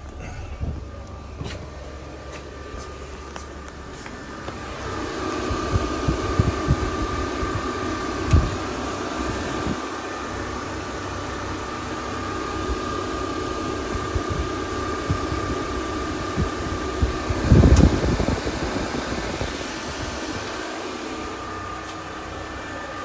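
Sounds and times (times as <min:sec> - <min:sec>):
electric cooling fans whirring: 0:00.0 - 0:23.0.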